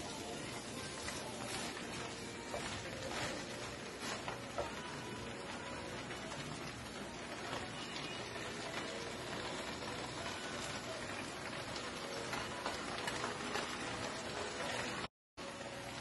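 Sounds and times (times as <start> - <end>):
rice sizzling in pot: 0.0 - 16.0.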